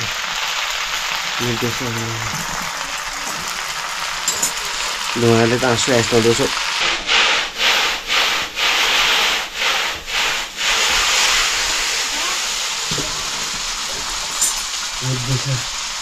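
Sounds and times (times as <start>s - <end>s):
noodles sizzling in a wok: 0.0s - 16.0s.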